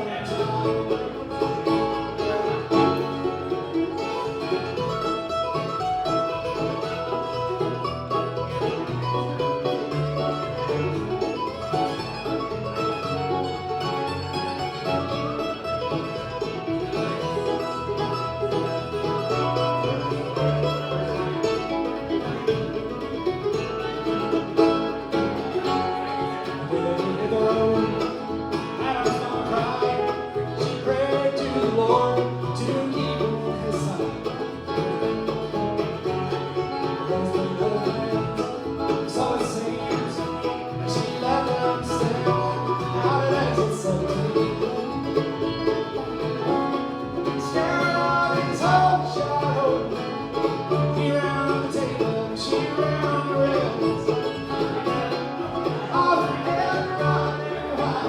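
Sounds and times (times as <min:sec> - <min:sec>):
bluegrass band playing: 0:00.0 - 0:58.0.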